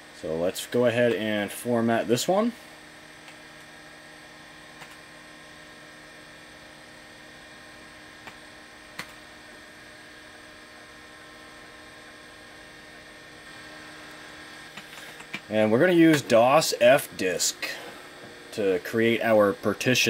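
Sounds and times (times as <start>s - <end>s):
computer and hard drive hum: 0.0s - 20.0s.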